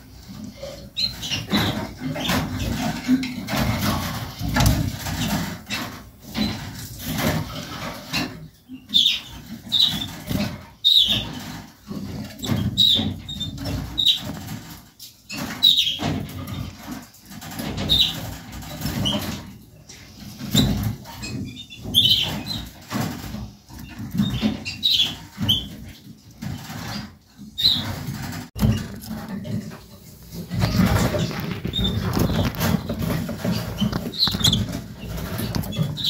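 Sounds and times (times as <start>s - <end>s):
birds rustling in wire cage: 0.0s - 36.0s
canaries chirping: 0.0s - 36.0s.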